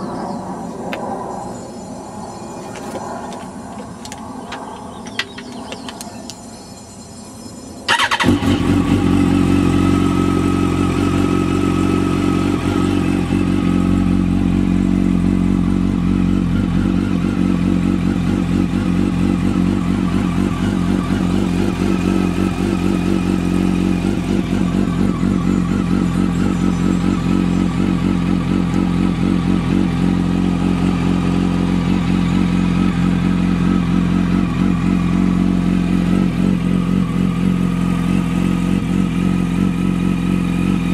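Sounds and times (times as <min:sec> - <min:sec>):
motorcycle engine idling: 0:02.5 - 0:06.4, 0:07.9 - 0:40.9.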